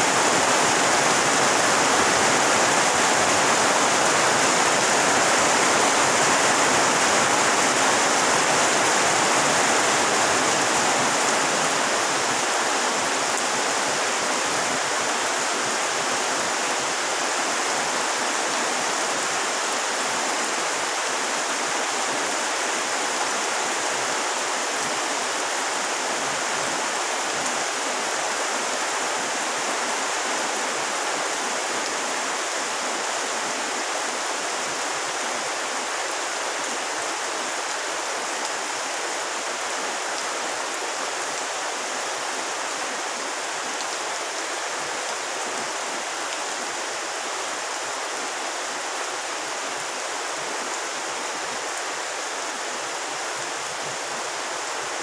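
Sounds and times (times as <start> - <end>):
heavy rain on a pond: 0.0 - 55.0.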